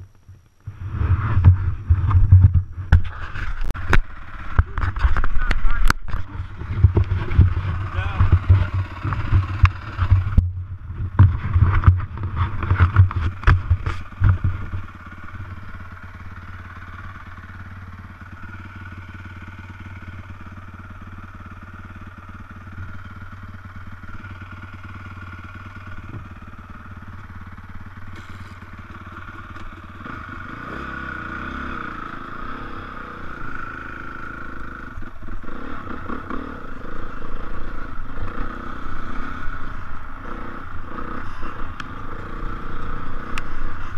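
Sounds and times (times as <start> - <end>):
dirt bike engine revving: 0.7 - 43.9.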